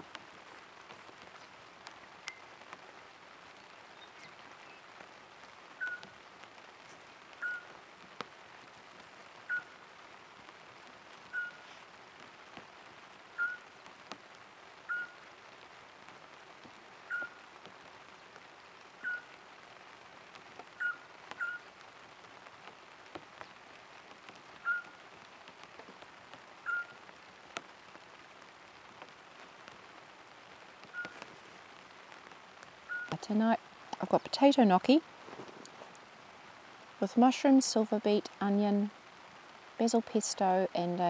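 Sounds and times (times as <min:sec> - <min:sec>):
light rain on a tarp: 0:00.0 - 0:41.0.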